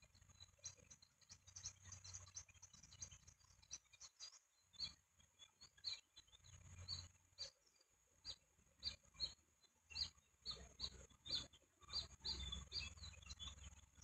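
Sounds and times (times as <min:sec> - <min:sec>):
eaglets peeping: 0:00.0 - 0:14.0.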